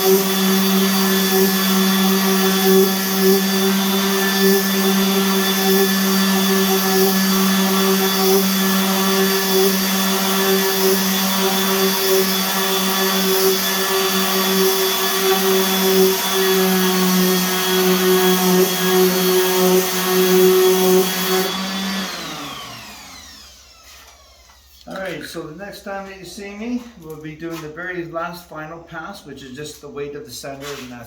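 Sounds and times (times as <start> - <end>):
orbital sander on wood: 0.0 - 25.0.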